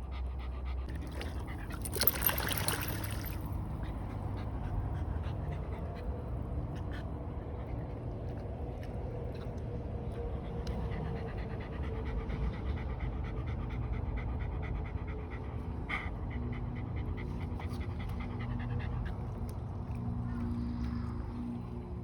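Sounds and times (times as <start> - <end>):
dog panting: 0.0 - 21.8.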